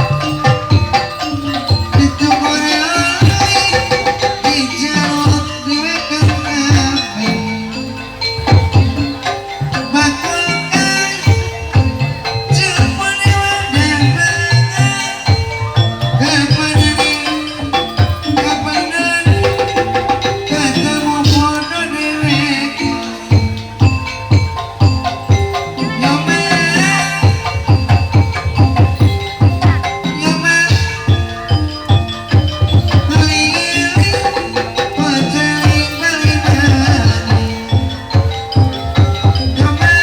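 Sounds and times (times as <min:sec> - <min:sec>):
bronze metallophones melody: 0:00.0 - 0:40.0
hand drums beating: 0:00.0 - 0:40.0.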